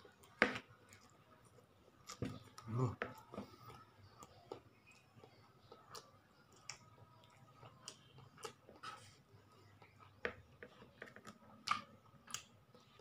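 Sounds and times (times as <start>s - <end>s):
wet chewing and lip smacking: 0.0s - 13.0s.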